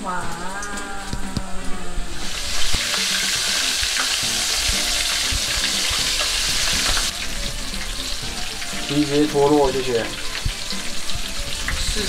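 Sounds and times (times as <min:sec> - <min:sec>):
hot oil sizzling in a pan: 0:02.1 - 0:12.0.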